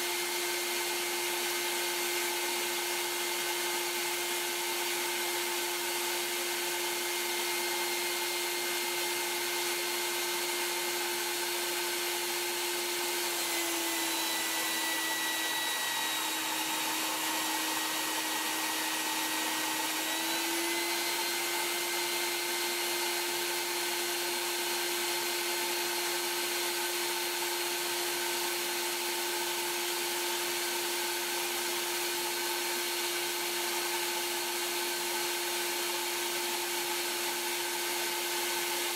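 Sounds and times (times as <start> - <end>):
shop vac motor whine: 0.0 - 38.9.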